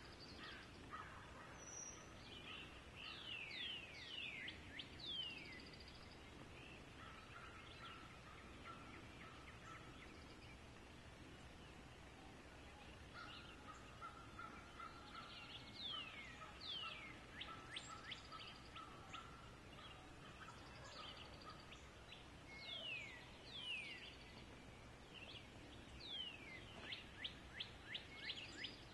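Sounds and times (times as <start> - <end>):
birds calling: 0.0 - 28.9.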